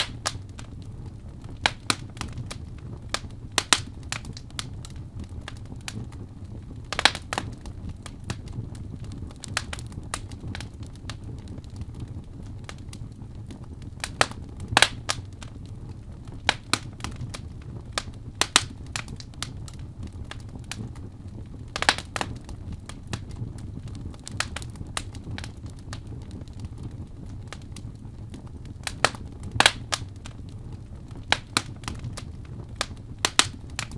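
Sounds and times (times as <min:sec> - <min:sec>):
fire crackling and popping: 0:00.0 - 0:33.9
low fire rumble: 0:00.0 - 0:33.9.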